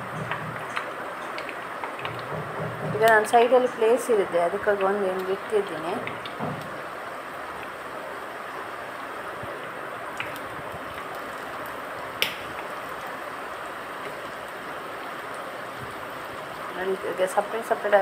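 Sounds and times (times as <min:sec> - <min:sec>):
oil crackles and pop: 0:00.0 - 0:03.8, 0:04.5 - 0:07.8, 0:09.3 - 0:18.0
batter sizzling in hot oil: 0:00.0 - 0:18.0.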